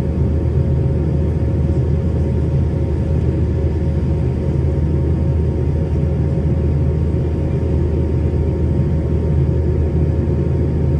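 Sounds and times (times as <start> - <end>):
airplane cabin drone: 0.0 - 10.9.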